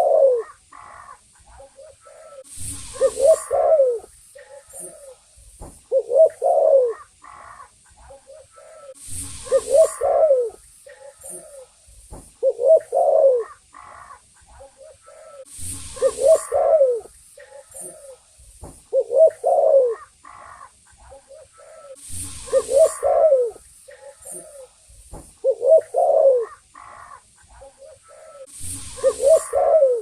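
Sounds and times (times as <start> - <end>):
dove cooing: 0.0 - 5.2, 5.9 - 11.8, 12.4 - 18.2, 18.9 - 24.7, 25.4 - 30.0.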